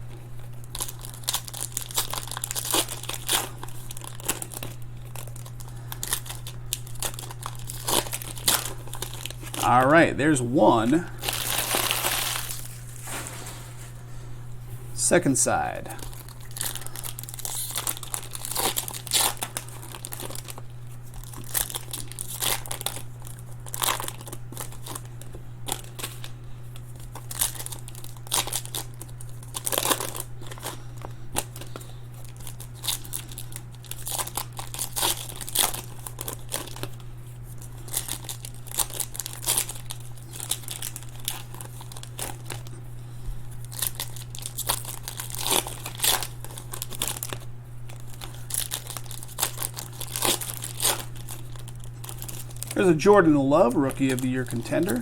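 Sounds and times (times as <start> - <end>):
steady low hum: 0.0 - 55.0
card wrappers crinkling and tearing: 0.1 - 13.3, 15.6 - 55.0.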